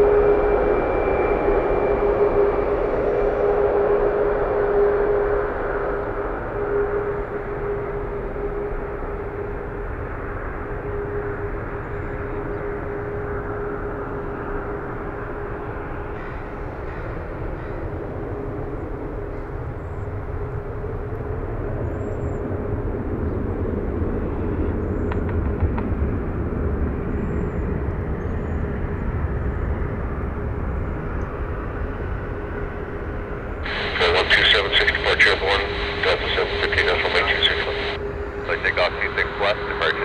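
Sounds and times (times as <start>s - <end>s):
jet engine rumble: 0.0s - 40.0s.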